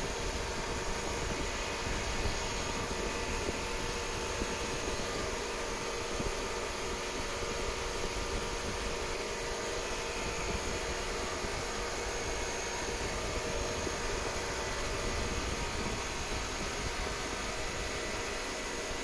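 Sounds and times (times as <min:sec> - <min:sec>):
fan motor drone: 0:00.0 - 0:19.0.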